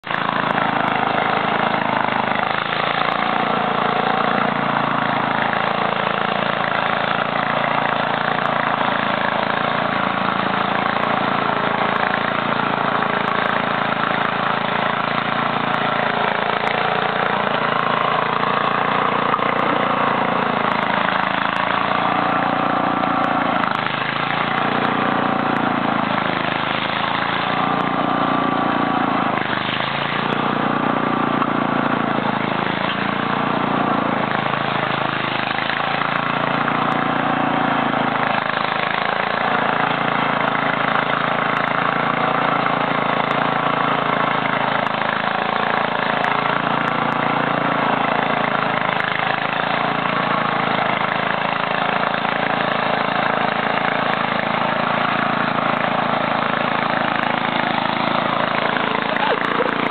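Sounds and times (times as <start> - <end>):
garden tractor engine under load: 0.0 - 59.9.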